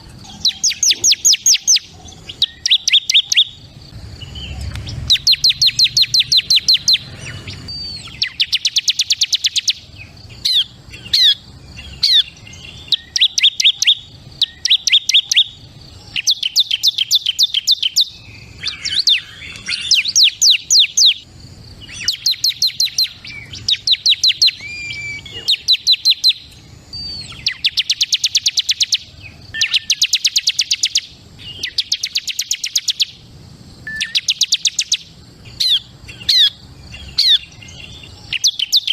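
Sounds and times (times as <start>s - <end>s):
bird singing rapid high notes: 0.0s - 33.2s, 33.8s - 38.9s.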